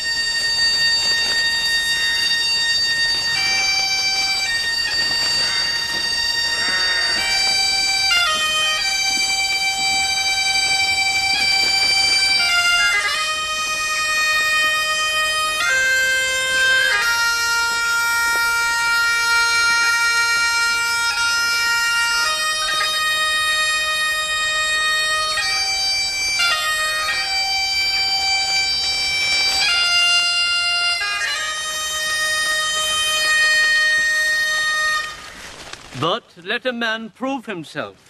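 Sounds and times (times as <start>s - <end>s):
slow reed pipe melody: 0.0s - 35.6s.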